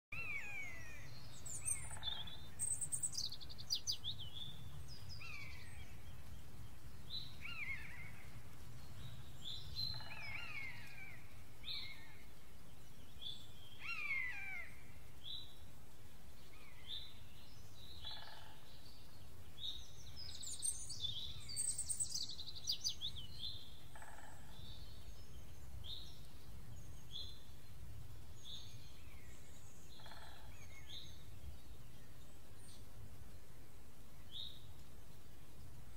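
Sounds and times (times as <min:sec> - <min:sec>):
songbirds calling and singing: 0:00.1 - 0:35.9.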